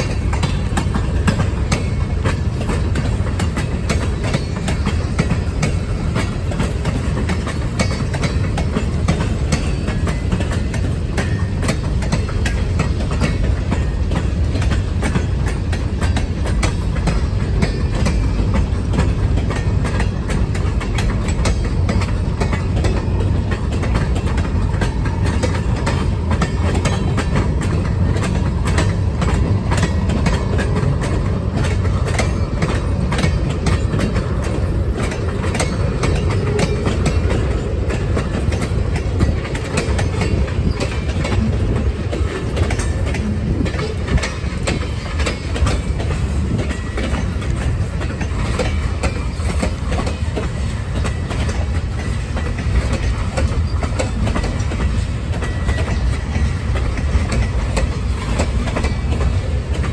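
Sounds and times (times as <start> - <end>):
train wheels rumbling on rails: 0.0 - 59.9
wheels clacking over rail joints: 0.0 - 59.9.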